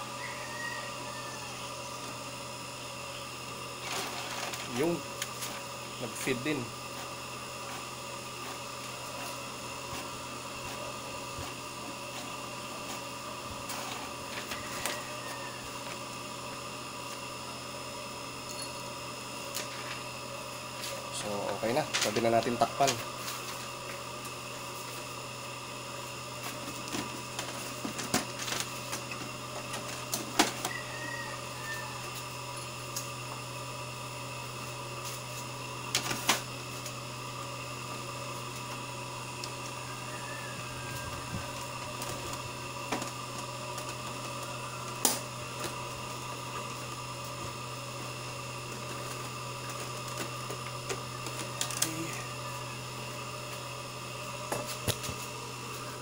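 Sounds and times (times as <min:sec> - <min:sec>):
printer steady hum: 0:00.0 - 0:56.0.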